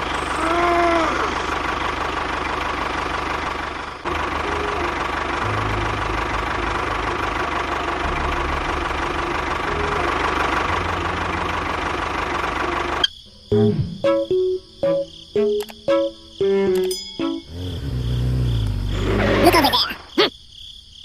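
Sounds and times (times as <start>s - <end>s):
tractor engine running: 0.0s - 19.8s.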